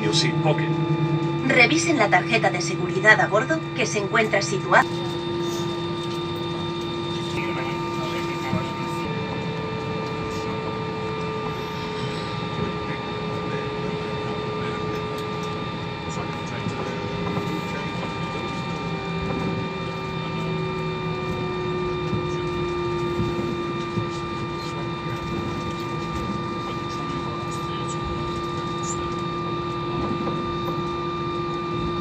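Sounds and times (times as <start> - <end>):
engine whining tones: 0.0 - 32.0
jet engines humming: 0.0 - 32.0.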